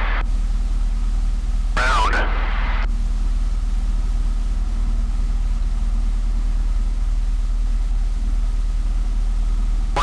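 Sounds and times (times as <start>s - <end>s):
aircraft engine idling: 0.0s - 10.0s.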